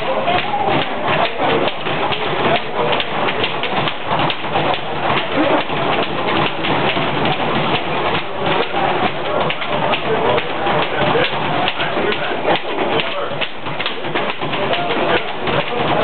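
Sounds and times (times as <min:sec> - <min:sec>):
quick sharp knocks: 0:00.0 - 0:16.0.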